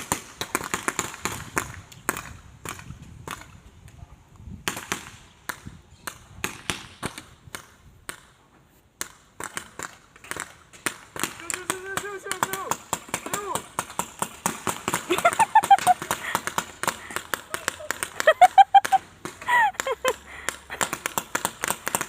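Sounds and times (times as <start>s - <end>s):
airsoft guns firing: 0.0s - 3.5s, 4.6s - 8.4s, 9.0s - 22.0s.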